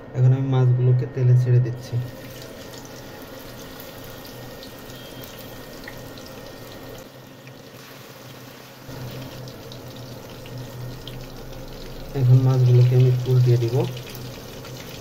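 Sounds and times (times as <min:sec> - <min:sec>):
fish sizzling in hot oil: 0:02.0 - 0:15.0.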